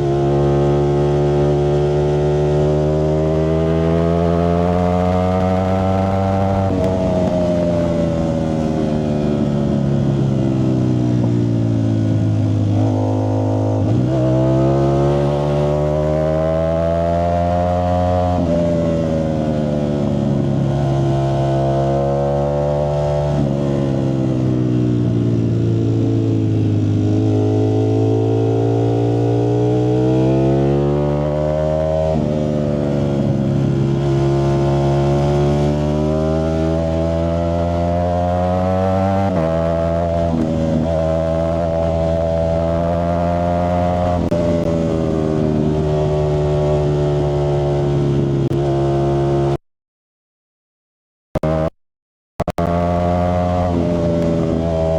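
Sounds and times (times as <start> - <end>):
motorcycle engine revving: 0.0 - 49.6, 51.4 - 51.8, 52.4 - 54.9.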